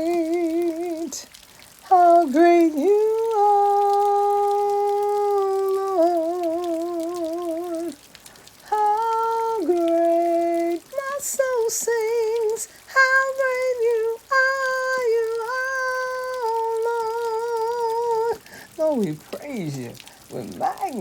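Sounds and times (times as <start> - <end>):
woman singing with vibrato: 0.0 - 8.0, 8.6 - 21.0.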